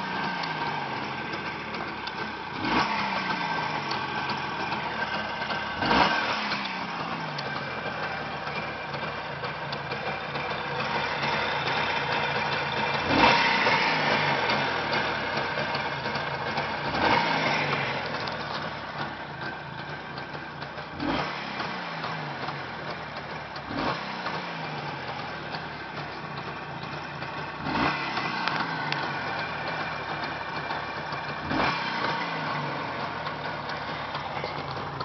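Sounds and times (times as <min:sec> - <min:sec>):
two-stroke motorcycle engine blipping: 0:00.0 - 0:35.0.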